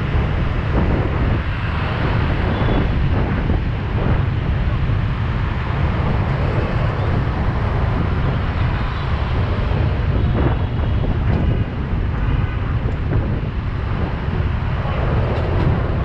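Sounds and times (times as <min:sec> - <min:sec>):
motorbike and car traffic: 0:00.0 - 0:16.0
wind rumble on microphone: 0:00.0 - 0:16.0.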